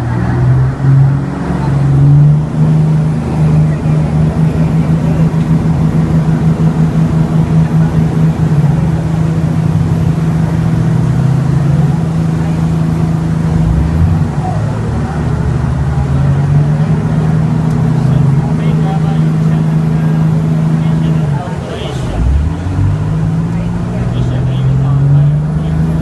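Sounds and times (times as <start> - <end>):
boat engine humming: 0.0 - 26.0
low tone: 0.0 - 26.0.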